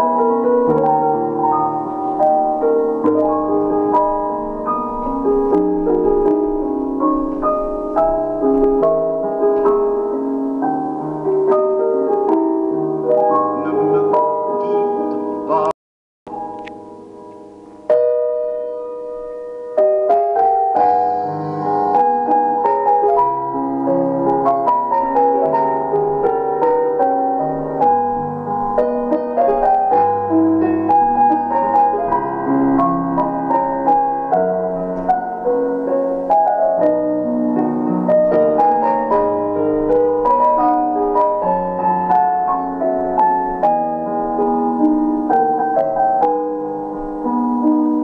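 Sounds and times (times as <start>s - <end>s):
instrumental piano music: 0.0s - 15.7s, 16.3s - 48.0s.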